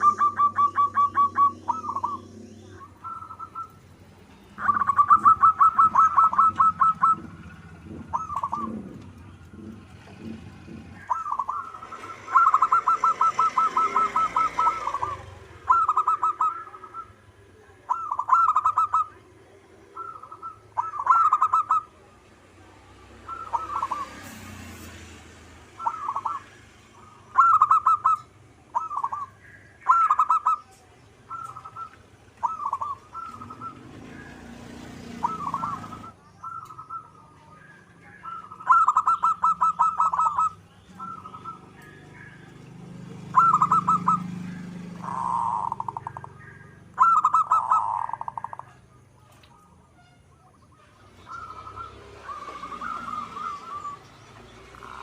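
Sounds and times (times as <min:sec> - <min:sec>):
dove cooing: 0:00.0 - 0:24.6, 0:25.7 - 0:49.8, 0:51.0 - 0:55.0.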